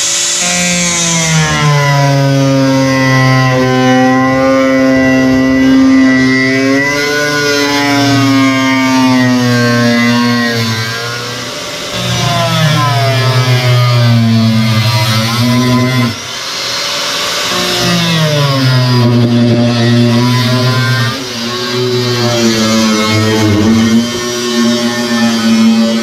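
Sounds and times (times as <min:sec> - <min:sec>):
angle grinder cutting steel: 0:00.0 - 0:26.0.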